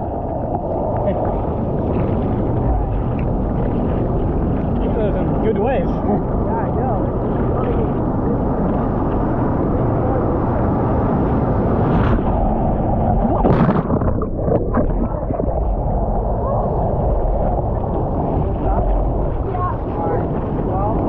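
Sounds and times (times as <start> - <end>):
water washing over camera: 0.0 - 21.0.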